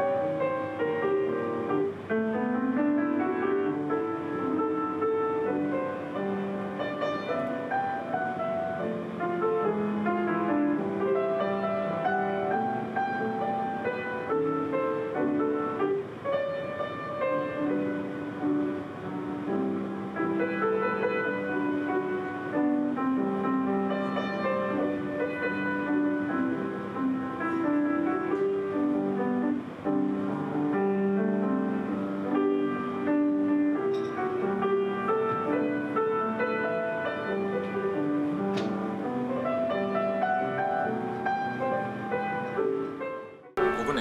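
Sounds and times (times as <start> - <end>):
piano melody over chords: 0.0 - 44.0.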